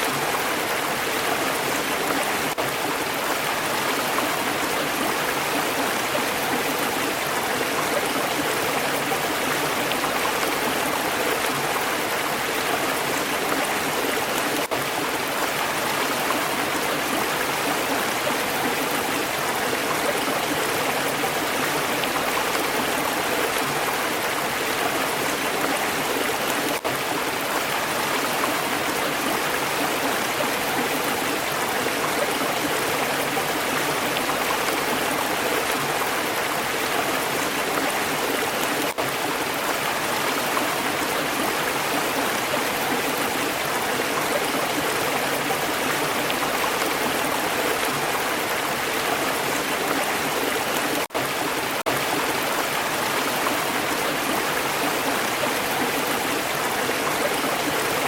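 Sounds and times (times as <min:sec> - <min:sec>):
stream babbling over stones: 0:00.0 - 0:58.0.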